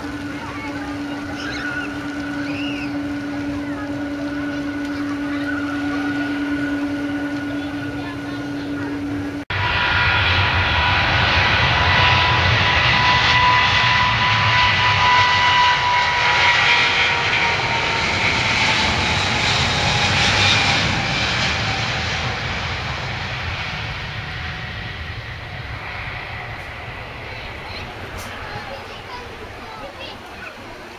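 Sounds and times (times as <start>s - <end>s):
jet engine roar: 0.0s - 30.9s
jet engine whine: 0.0s - 30.9s.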